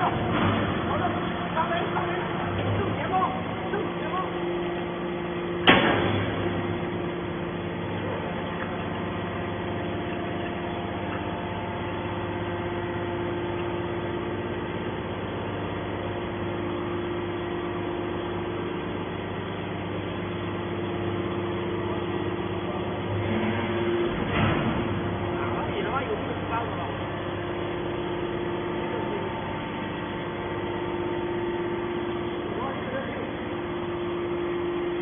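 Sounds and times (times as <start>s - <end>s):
hydraulic pump motor humming: 0.0s - 35.0s.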